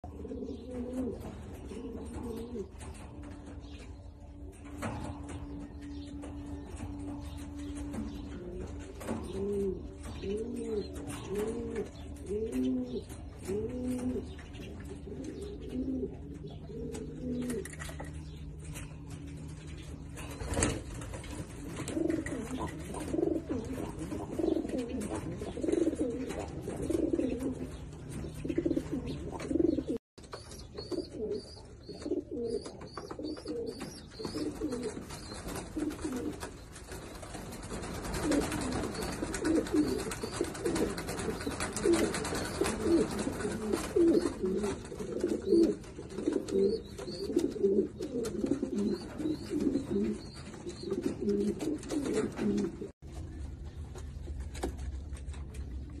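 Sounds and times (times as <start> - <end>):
pigeons cooing: 0.0 - 53.0.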